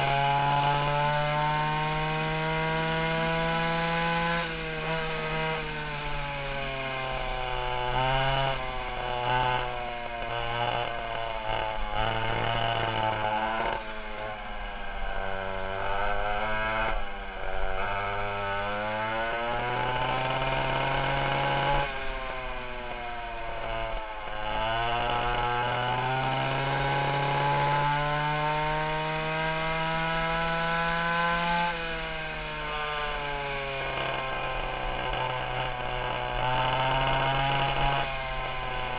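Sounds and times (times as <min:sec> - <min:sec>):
go-kart engines whining: 0:00.0 - 0:38.9.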